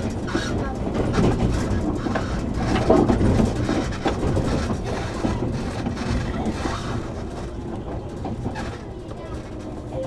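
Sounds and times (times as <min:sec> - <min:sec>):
short clacks of wheels: 0:00.0 - 0:10.0
train wheels rumbling on track: 0:00.0 - 0:10.0.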